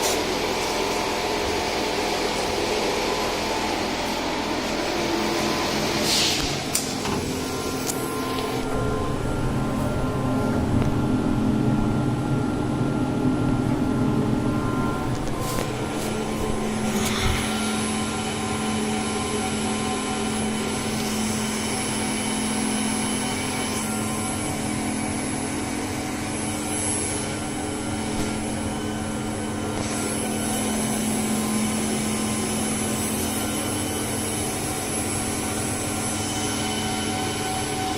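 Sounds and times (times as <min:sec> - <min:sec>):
cnc router hum and whine: 0:00.0 - 0:37.9.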